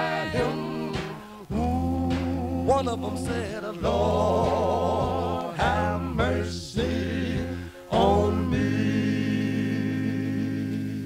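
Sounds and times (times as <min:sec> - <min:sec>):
male vocal quartet singing gospel: 0:00.0 - 0:11.0.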